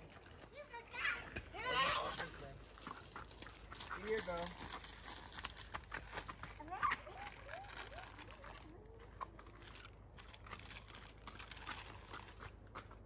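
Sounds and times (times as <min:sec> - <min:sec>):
camping gear rustling and clicking: 0:01.2 - 0:13.0.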